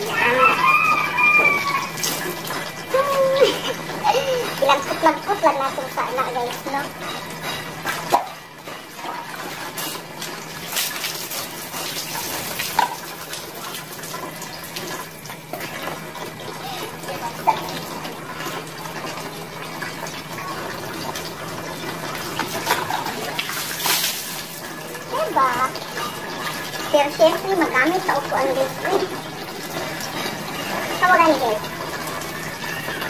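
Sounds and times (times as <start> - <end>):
dipper scooping water: 0.0 - 33.0
water poured and splashing: 0.0 - 33.0.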